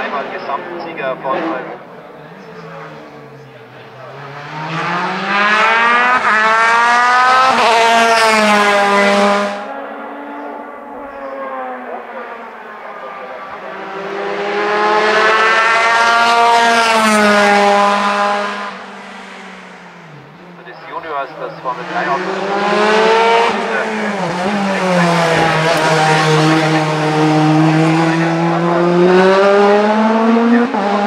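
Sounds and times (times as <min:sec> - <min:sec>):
racing car engine at full throttle: 0:00.0 - 0:31.0.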